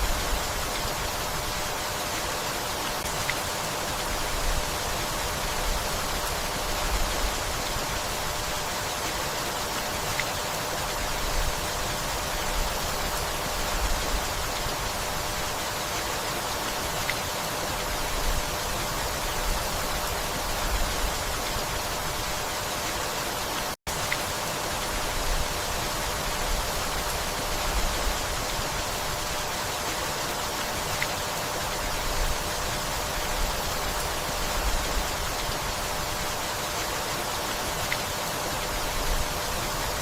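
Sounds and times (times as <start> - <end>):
steady rainfall: 0.0 - 40.0.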